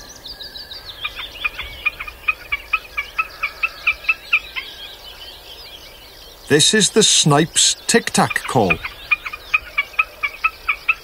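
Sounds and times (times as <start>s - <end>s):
small birds singing: 0.0s - 11.0s.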